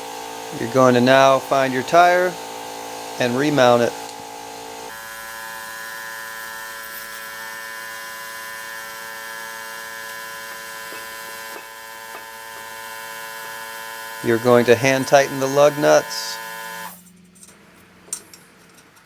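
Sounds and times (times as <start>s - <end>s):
electric hum: 0.0s - 17.6s.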